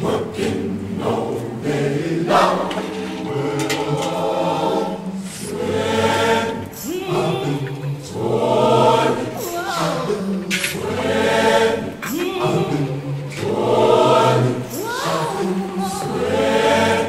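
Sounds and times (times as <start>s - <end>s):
group singing in harmony: 0.0s - 17.0s.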